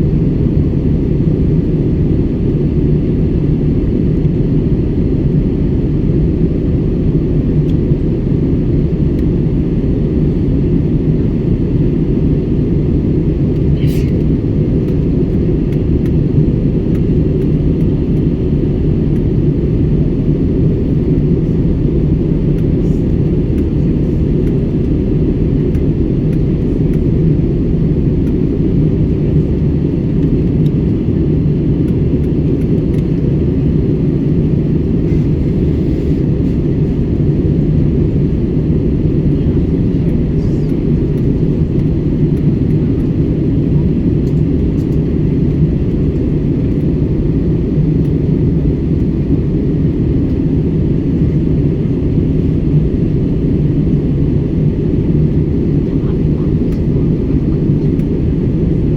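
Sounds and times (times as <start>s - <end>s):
airliner cabin drone: 0.0s - 58.9s.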